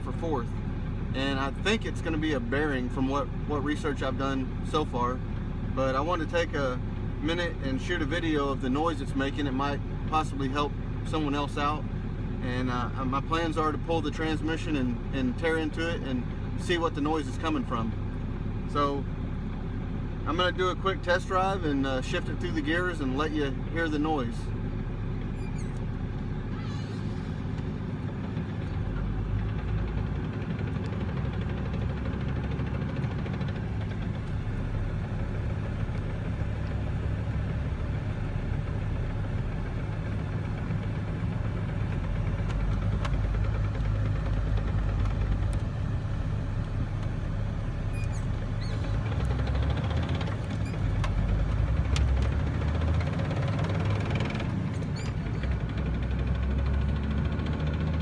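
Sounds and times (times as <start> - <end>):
diesel truck engine driving: 0.0 - 58.0.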